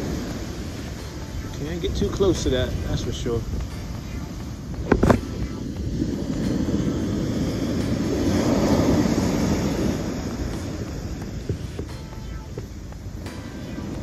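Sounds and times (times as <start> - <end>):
ocean wave rushing in: 0.0 - 14.0.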